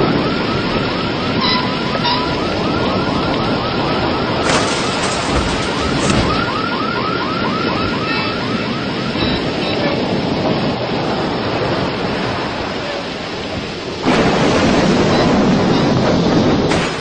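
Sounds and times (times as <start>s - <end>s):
rain: 0.0s - 17.0s
wind: 0.0s - 17.0s.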